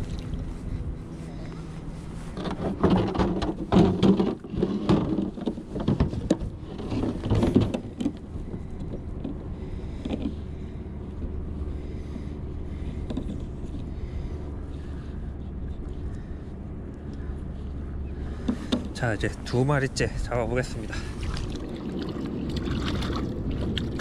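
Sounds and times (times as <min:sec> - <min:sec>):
low rumble of wind and water: 0:00.0 - 0:24.0.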